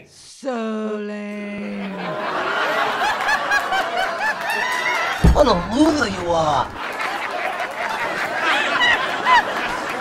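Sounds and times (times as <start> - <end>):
diners chattering and laughing: 1.7 - 10.0.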